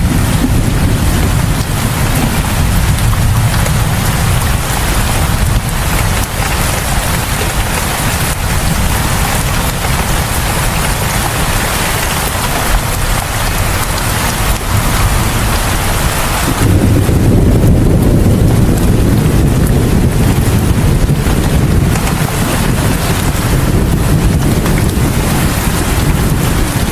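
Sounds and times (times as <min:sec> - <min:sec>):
low rumble: 0:00.0 - 0:26.9
rain falling: 0:00.0 - 0:26.9.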